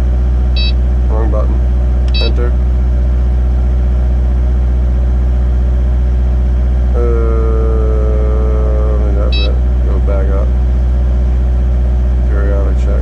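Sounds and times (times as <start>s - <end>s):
excavator diesel engine running: 0.0s - 13.0s
steady pitched whine: 0.0s - 13.0s.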